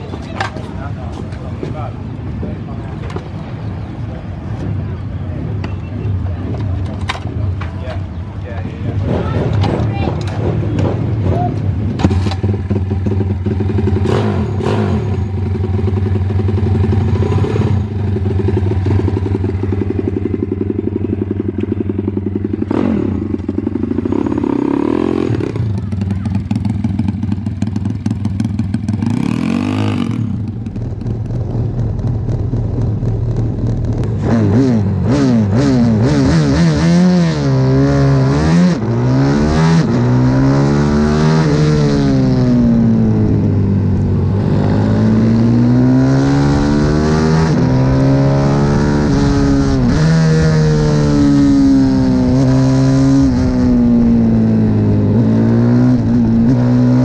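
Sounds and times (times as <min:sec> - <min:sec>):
motorbike engine revving: 0:08.9 - 0:57.0.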